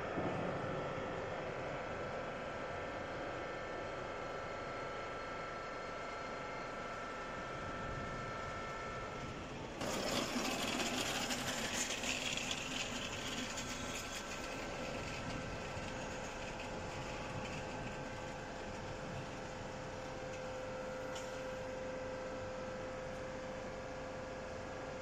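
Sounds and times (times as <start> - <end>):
rattling whirring mechanical noise: 0.0 - 25.0.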